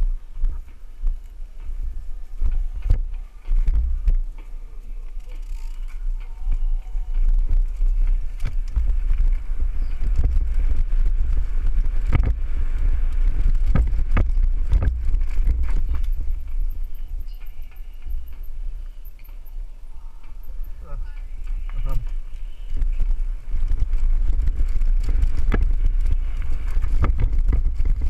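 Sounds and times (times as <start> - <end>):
bike rattling: 0.0 - 28.0
wind rumble on microphone: 0.0 - 28.0
wheels knocking over bumps: 0.3 - 19.7, 20.3 - 28.0.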